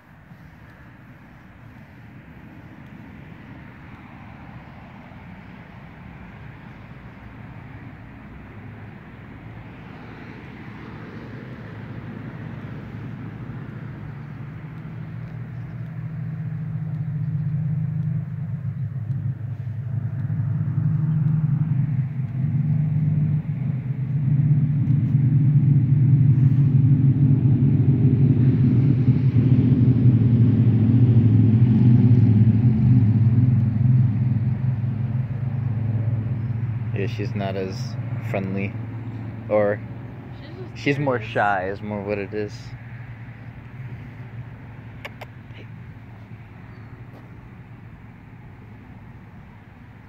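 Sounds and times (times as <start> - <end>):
low engine rumble: 0.0 - 50.0.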